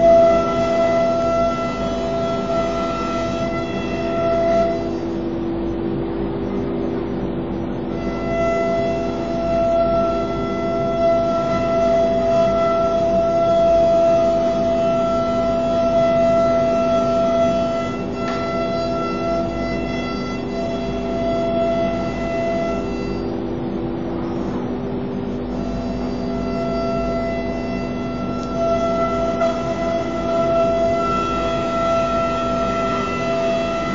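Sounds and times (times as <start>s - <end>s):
machine running noise: 0.0s - 33.9s
router machine whine: 0.0s - 33.9s.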